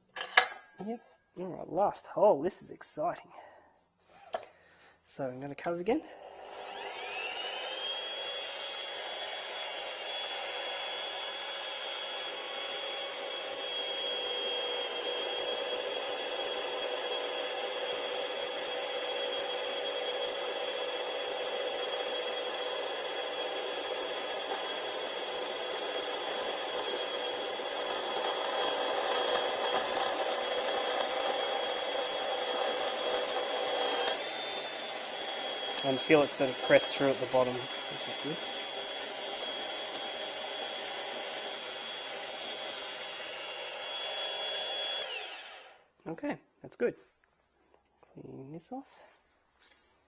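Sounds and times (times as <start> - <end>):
power drill whining: 4.0 - 4.7, 5.6 - 46.0.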